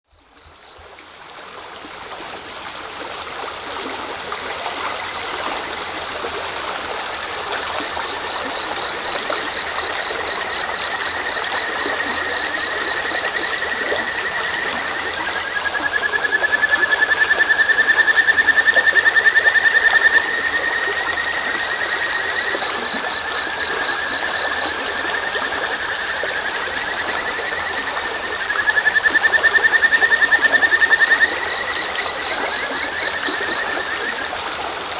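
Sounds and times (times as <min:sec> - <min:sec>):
crickets trilling: 0:00.2 - 0:34.9
frogs calling: 0:00.3 - 0:34.9
river babbling: 0:00.9 - 0:34.9.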